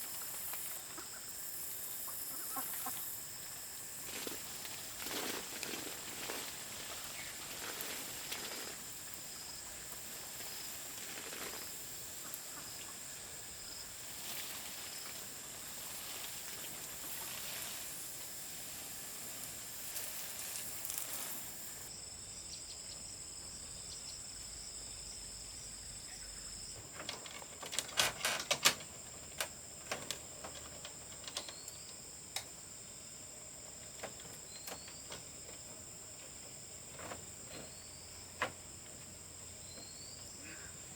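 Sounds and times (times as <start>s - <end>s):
crickets chirring: 0.0s - 40.9s
outdoor hiss: 0.0s - 40.9s.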